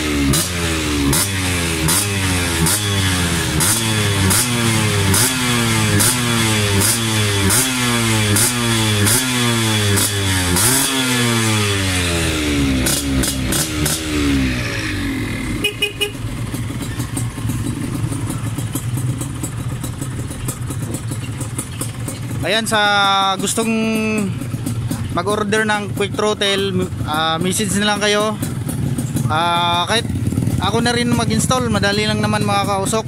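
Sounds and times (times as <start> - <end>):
motorcycle engine idling: 0.0 - 33.0
two-stroke motorcycle engine revving: 0.0 - 33.0.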